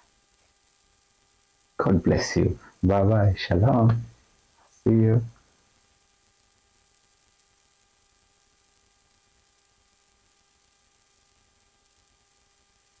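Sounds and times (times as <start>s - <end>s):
faint hum: 0.0s - 13.0s
faint steady hiss: 0.0s - 13.0s.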